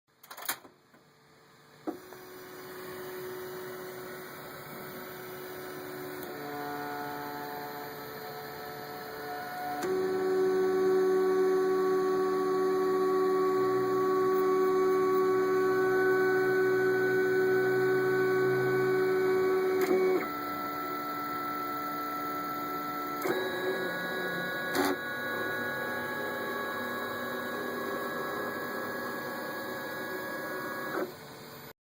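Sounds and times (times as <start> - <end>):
steady electrical buzz: 2.1 - 31.7.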